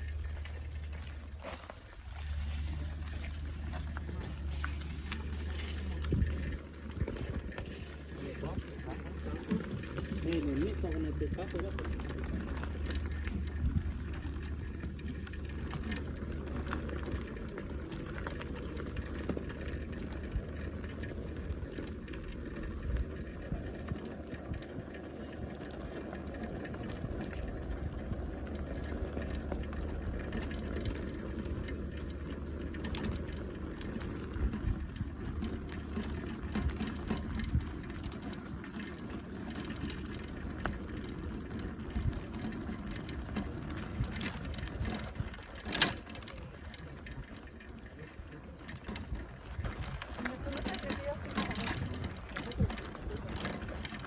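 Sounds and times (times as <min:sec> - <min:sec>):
bicycle clatter: 0:00.0 - 0:54.0
bicycle clicks and rattles: 0:00.0 - 0:54.0
bicycle tyres rumbling: 0:00.0 - 0:54.0.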